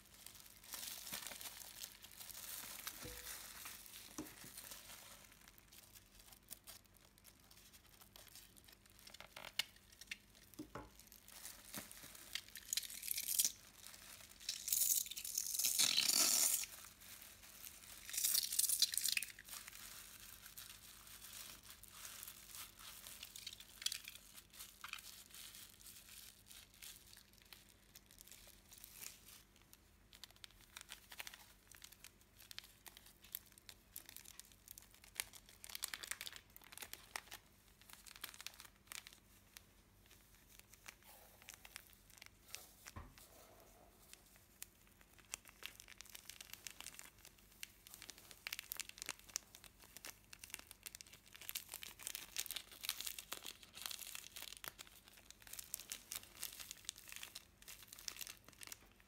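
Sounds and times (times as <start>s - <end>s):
slime crackling and crinkling: 0.0s - 59.0s
soft crackles and clicks: 0.1s - 43.3s, 44.0s - 59.0s.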